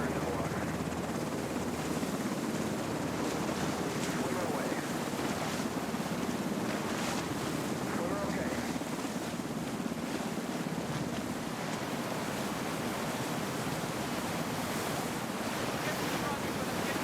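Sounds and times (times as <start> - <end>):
rough sea: 0.0 - 17.0
wind: 0.0 - 17.0.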